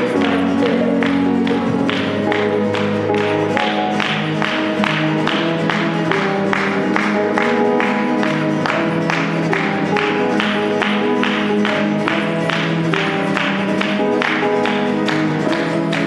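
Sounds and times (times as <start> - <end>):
acoustic guitar strumming: 0.0 - 16.0
keyboard playing chords: 0.0 - 16.0.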